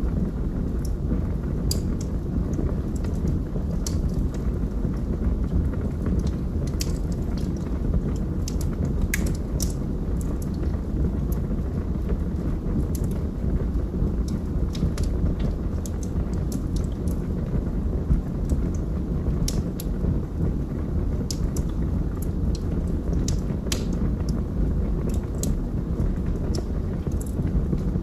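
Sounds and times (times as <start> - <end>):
burning logs crackling and popping: 0.0 - 28.0
low rumble of flames: 0.0 - 28.0.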